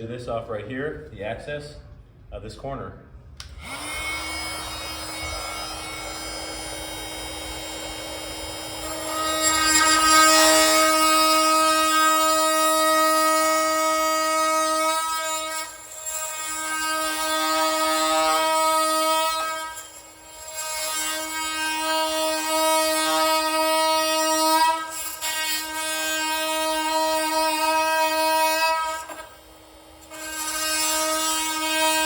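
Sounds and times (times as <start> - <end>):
oscillating multi-tool whining: 3.4 - 32.0.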